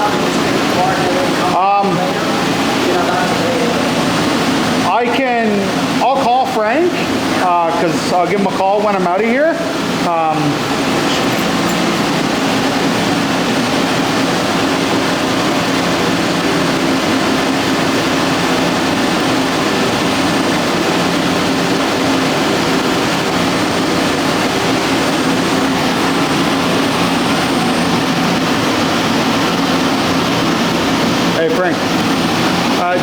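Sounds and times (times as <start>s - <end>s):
boiler room machinery humming: 0.0s - 33.0s.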